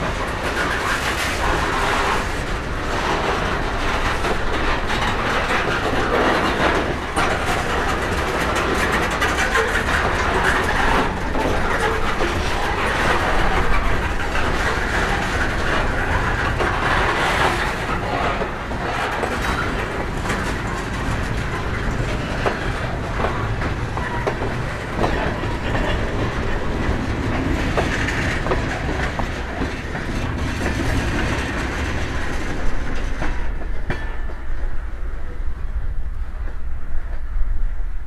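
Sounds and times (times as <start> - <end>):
train wheels clicking on rail joints: 0.0 - 37.5
freight train rumbling: 0.0 - 38.0.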